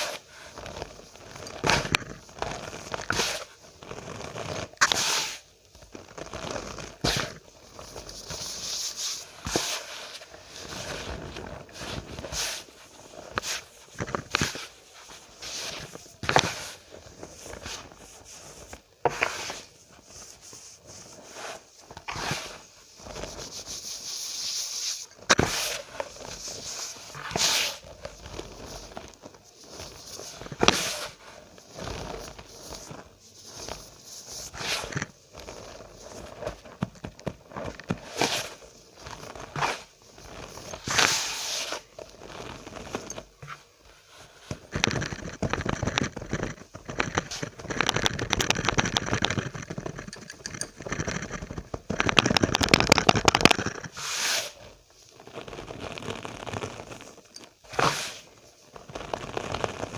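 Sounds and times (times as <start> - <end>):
cornstarch crunching and squeaking: 0.0 - 59.9.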